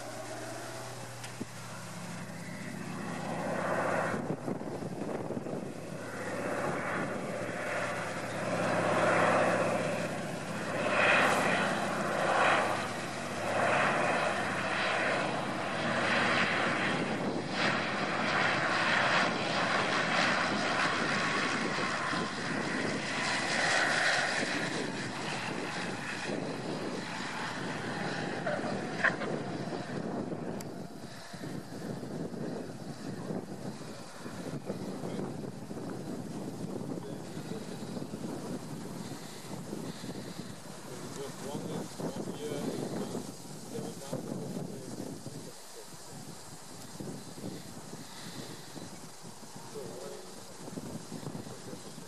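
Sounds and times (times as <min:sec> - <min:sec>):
propeller plane engine: 0:00.0 - 0:52.0.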